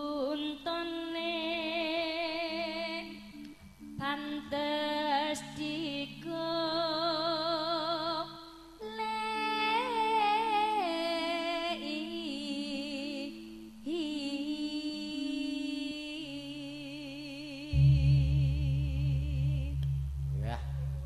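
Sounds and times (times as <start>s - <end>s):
woman singing with vibrato: 0.0s - 3.4s, 4.0s - 20.4s.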